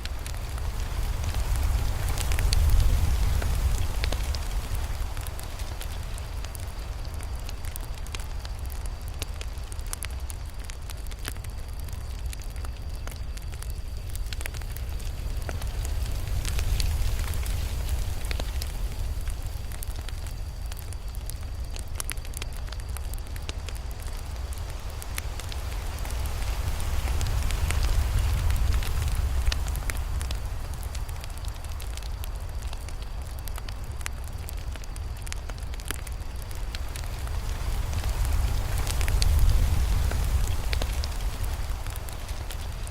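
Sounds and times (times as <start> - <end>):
low rumble of flames: 0.0 - 42.9
wood crackling and popping: 0.0 - 42.9.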